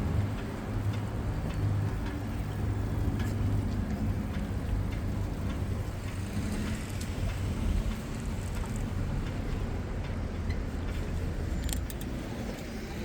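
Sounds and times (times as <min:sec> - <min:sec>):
city traffic rumble: 0:00.0 - 0:13.0
faint ticks: 0:00.2 - 0:12.7.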